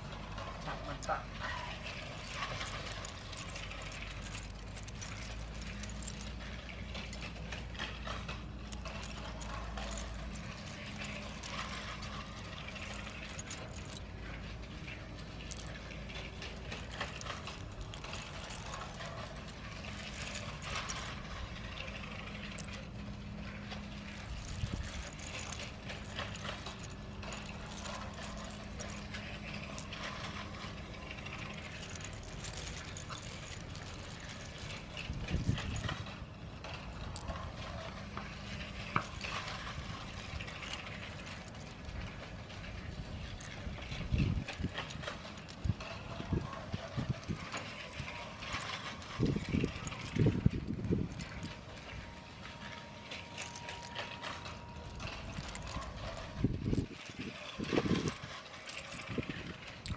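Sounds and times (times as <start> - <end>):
toy train wheels clicking on track: 0.0 - 59.9.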